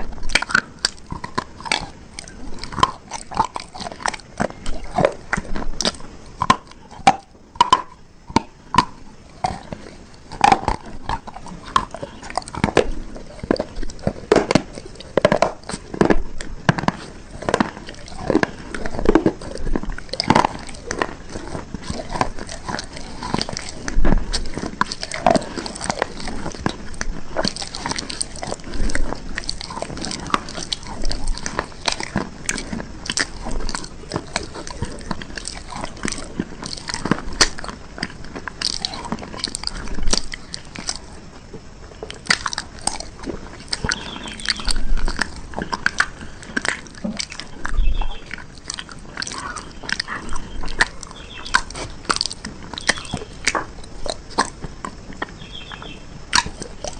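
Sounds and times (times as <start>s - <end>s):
person chewing crunchy bars: 0.0s - 56.9s.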